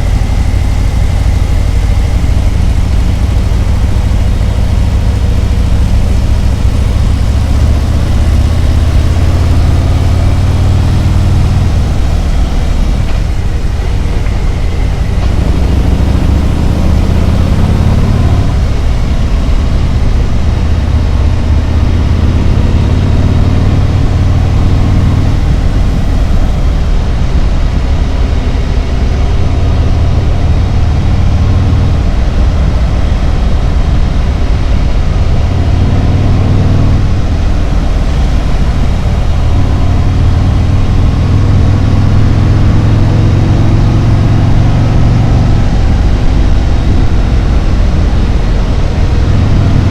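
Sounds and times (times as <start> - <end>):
motorcycle engine drone: 0.0 - 49.9
rush of air noise: 0.0 - 49.9.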